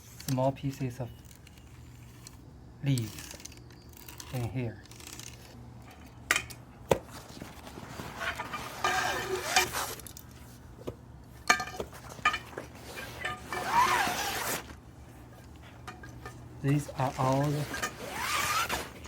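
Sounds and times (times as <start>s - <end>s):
parts scraping: 0.0s - 19.0s.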